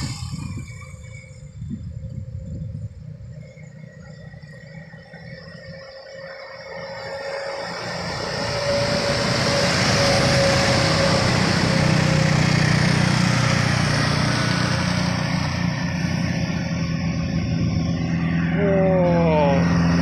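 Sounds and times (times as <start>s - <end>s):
truck diesel engine pulling hard: 0.0s - 20.0s.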